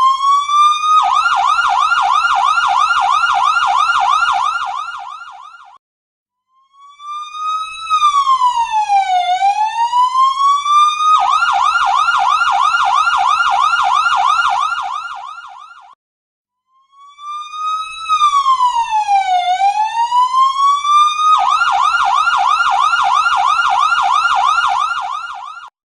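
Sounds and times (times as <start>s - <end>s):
ambulance siren wail and yelp: 0.0s - 5.8s, 6.6s - 16.0s, 16.9s - 25.8s.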